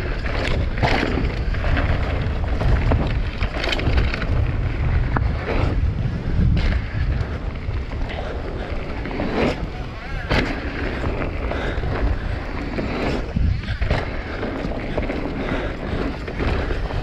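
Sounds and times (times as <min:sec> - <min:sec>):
bike clattering: 0:00.0 - 0:17.0
bike rolling on dirt trail: 0:00.0 - 0:17.0
wind buffeting microphone: 0:00.0 - 0:17.0.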